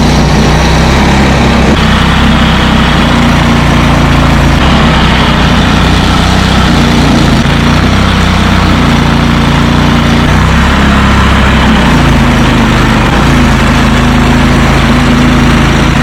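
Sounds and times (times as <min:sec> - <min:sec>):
large engine running: 0:00.0 - 0:16.0.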